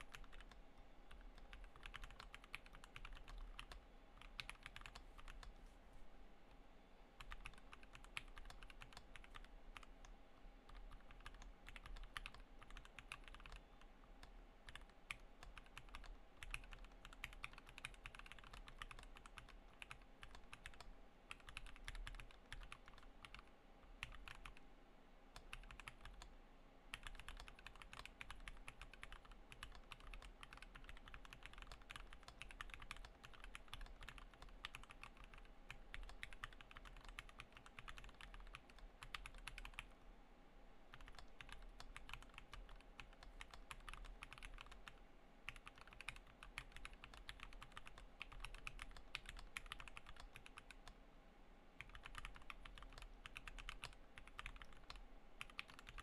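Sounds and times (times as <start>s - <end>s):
mechanical keyboard typing: 0.0s - 5.5s, 7.2s - 9.9s, 10.7s - 13.6s, 14.2s - 24.6s, 25.4s - 26.3s, 26.9s - 40.0s, 40.9s - 51.0s, 51.8s - 56.0s.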